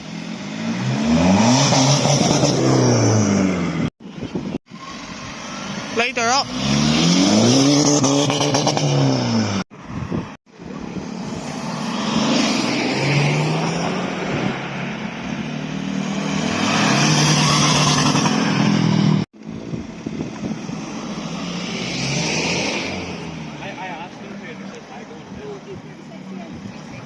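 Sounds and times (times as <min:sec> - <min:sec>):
car engine revving: 0:00.0 - 0:03.9, 0:04.9 - 0:09.6, 0:10.7 - 0:27.0.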